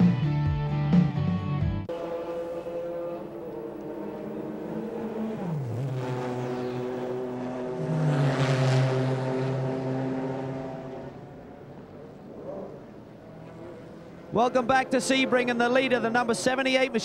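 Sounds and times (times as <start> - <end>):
race car engines: 1.8 - 17.0
race car passing close: 1.9 - 17.0.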